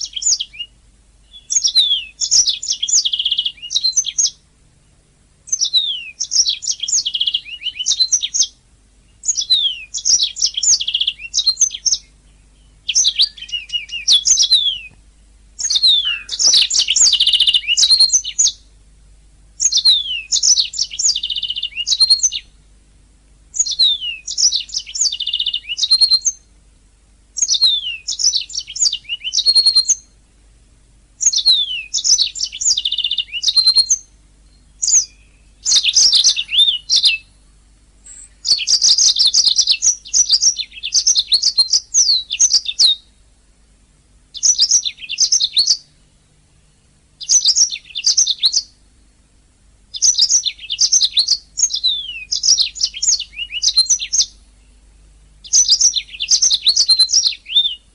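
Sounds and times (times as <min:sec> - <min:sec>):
canary singing: 0:00.0 - 0:04.4, 0:05.5 - 0:15.0, 0:15.6 - 0:18.8, 0:19.6 - 0:22.6, 0:23.5 - 0:26.6, 0:27.4 - 0:30.2, 0:31.2 - 0:43.2, 0:44.3 - 0:49.3, 0:49.9 - 0:57.9.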